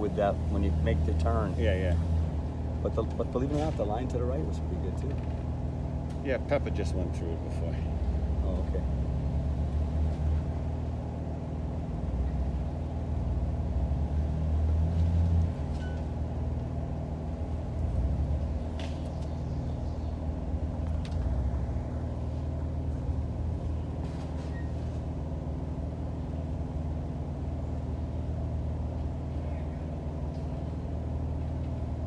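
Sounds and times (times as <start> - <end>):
off-road vehicle engine revving: 0.0 - 32.0.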